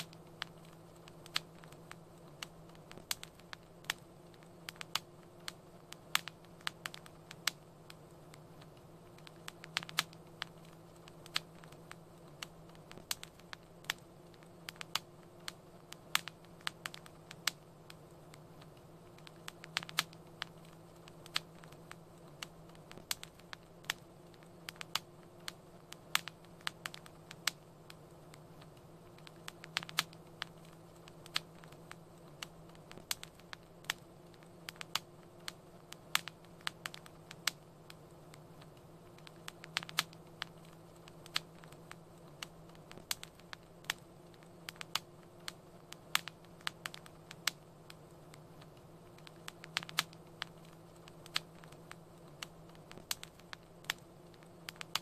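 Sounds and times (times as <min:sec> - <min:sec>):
low hiss and hum: 0:00.0 - 0:55.0
wood fire crackling: 0:00.0 - 0:55.0.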